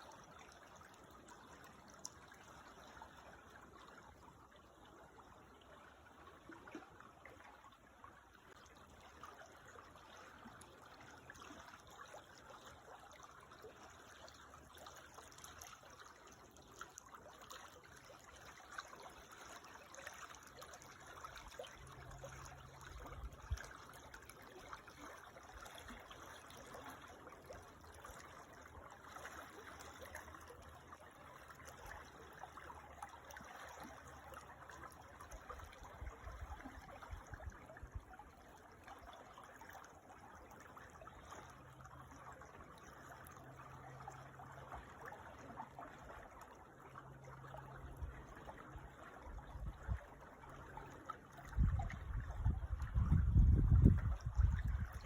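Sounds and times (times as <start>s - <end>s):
creek water trickling over stones: 0.0s - 55.0s.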